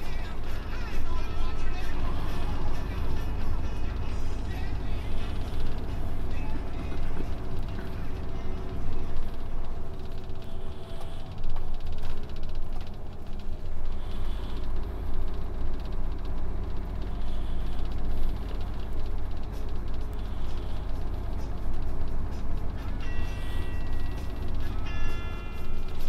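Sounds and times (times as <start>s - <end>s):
road and wind noise: 0.0s - 26.0s
truck engine rumble: 0.0s - 26.0s.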